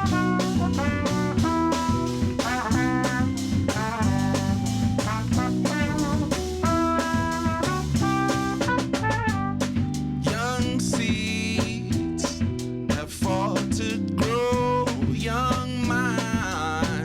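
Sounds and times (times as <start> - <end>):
trumpet-led brass melody: 0.0 - 11.4, 14.2 - 16.7
drum kit: 0.0 - 17.0.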